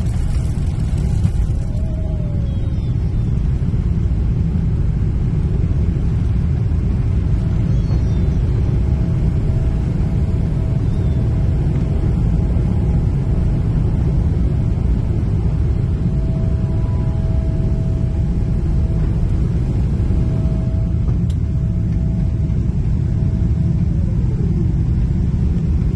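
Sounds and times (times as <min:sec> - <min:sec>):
faint engine whine: 0:00.0 - 0:25.9
jet engines rumbling: 0:00.0 - 0:25.9.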